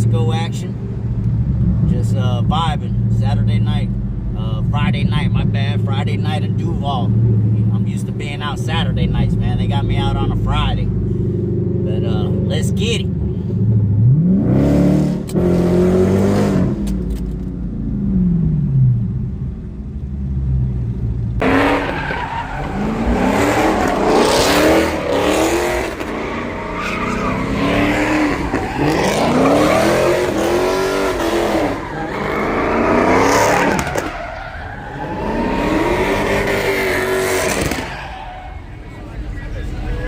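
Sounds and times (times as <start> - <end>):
car engine revving: 0.1 - 40.0.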